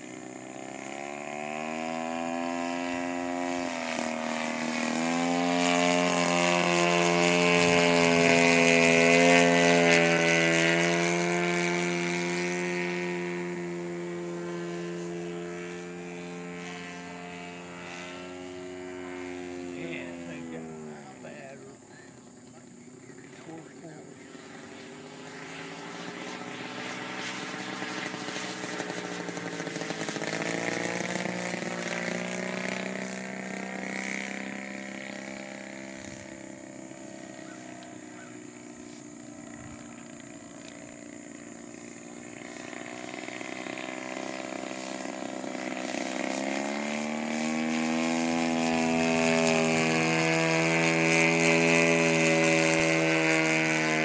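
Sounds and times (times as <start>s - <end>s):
model airplane engine droning: 0.0s - 54.0s.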